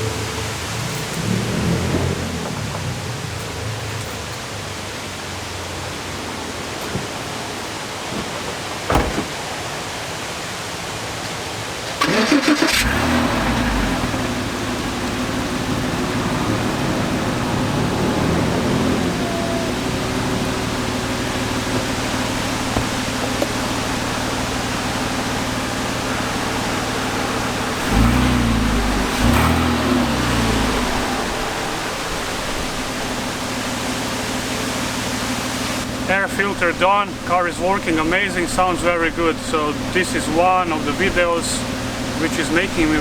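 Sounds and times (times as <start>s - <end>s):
car engine cranking and idling: 0.0s - 43.0s.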